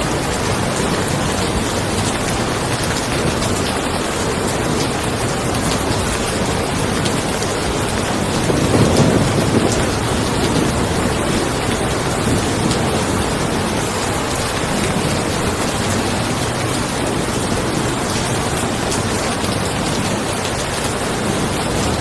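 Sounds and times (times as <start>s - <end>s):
distant thunder rumble: 0.0s - 22.0s
rain falling on a car: 0.0s - 22.0s.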